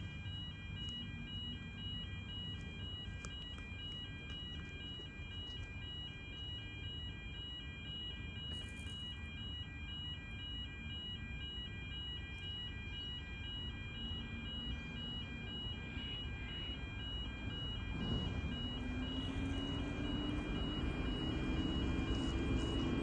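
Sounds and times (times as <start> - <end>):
electronic warning beeper: 0.0 - 23.0.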